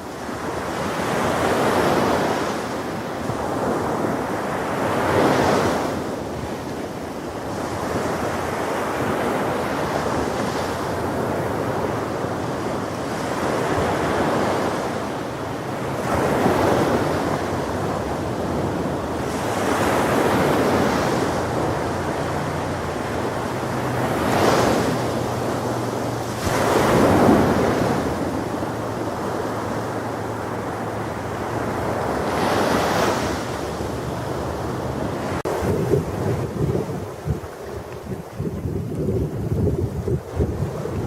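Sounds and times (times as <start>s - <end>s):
ocean waves breaking on shore: 0.0s - 41.0s
wind buffeting microphone: 0.0s - 41.0s.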